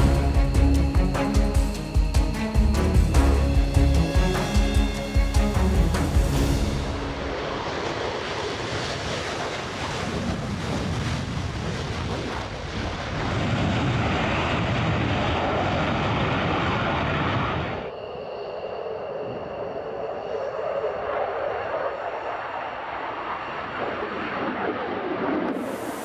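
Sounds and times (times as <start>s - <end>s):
jet engines roaring: 0.0s - 18.1s, 19.2s - 26.0s.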